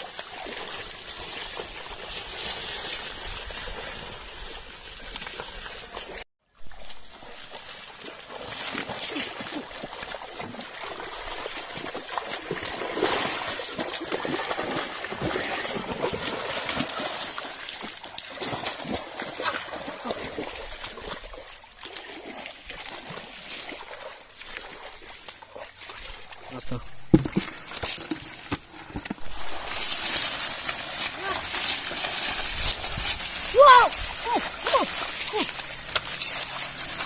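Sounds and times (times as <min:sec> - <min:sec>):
muddy water splashing: 0:00.0 - 0:37.0.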